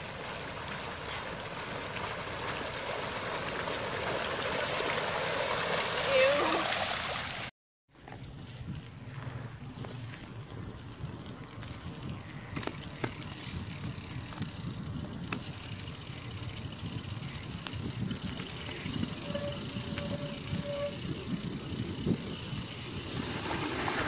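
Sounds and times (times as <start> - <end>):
bicycles rolling on pavement: 0.0 - 24.0.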